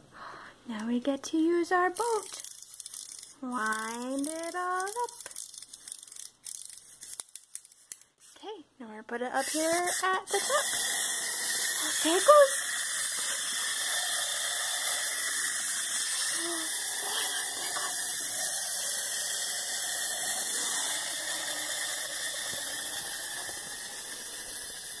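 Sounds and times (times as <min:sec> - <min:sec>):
clockwork toy motor whirring: 0:02.0 - 0:08.0, 0:09.4 - 0:25.0.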